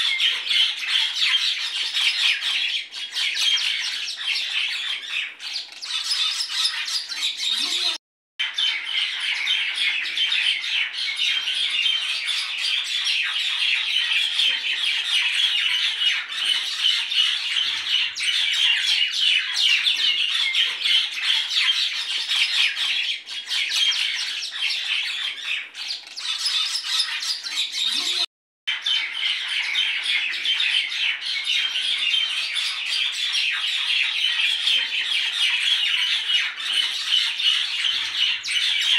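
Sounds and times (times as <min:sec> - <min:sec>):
chorus of birds chirping: 0:00.0 - 0:38.9.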